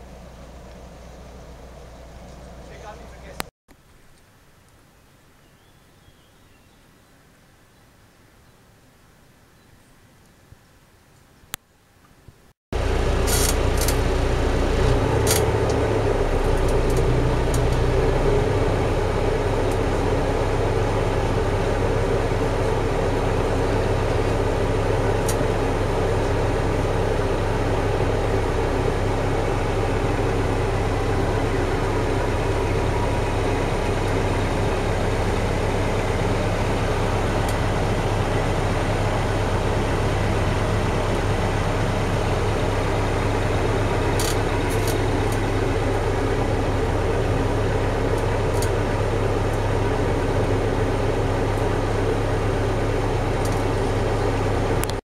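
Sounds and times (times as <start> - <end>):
ferry engine low hum: 0.0 - 5.7, 12.7 - 55.0.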